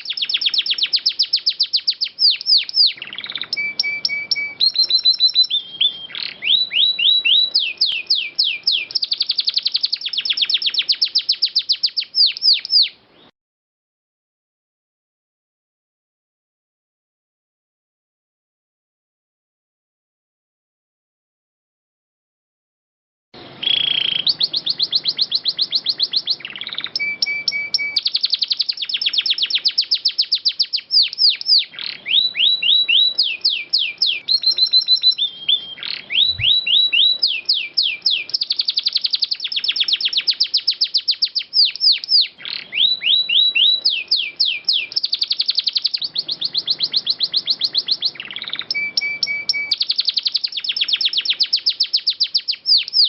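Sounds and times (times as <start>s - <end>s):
canary singing trills: 0.0s - 13.3s, 23.4s - 53.0s.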